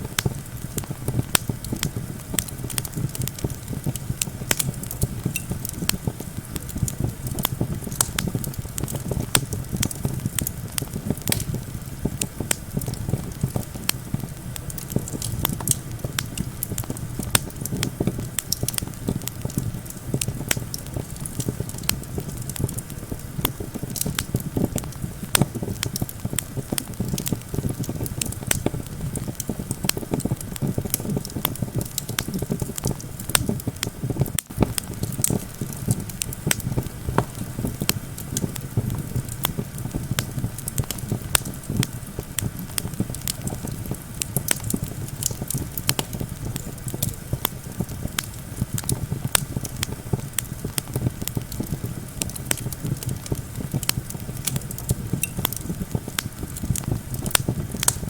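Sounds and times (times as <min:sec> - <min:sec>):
wind rumble: 0:00.0 - 0:50.3
wood fire crackling: 0:00.0 - 0:58.0.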